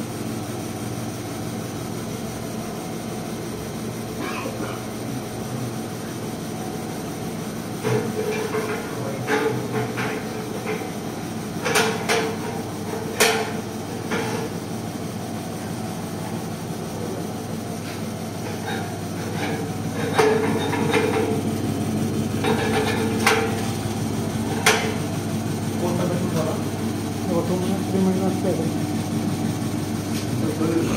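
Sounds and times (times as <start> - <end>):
machine motor hum: 0.0 - 30.9.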